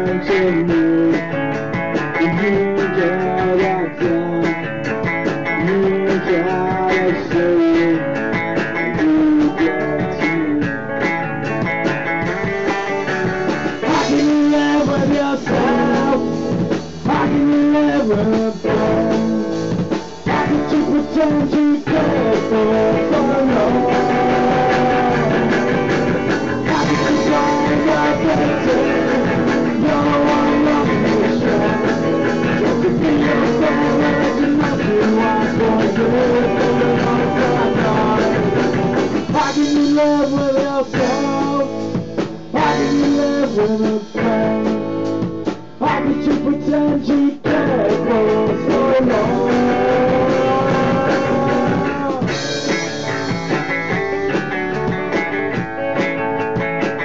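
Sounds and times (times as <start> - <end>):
drums: 0.0 - 57.0
electric guitar: 0.0 - 57.0
punk band playing: 0.0 - 57.0.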